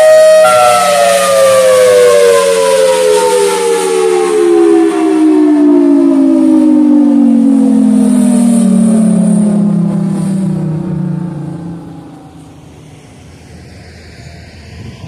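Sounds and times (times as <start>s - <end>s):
outdoor warning siren winding down: 0.0s - 15.0s.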